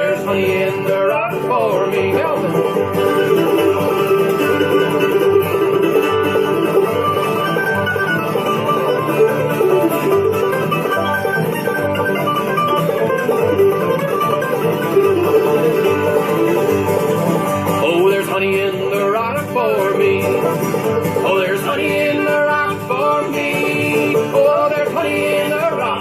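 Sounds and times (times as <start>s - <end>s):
banjo: 0.0s - 26.0s
guitar: 0.0s - 26.0s.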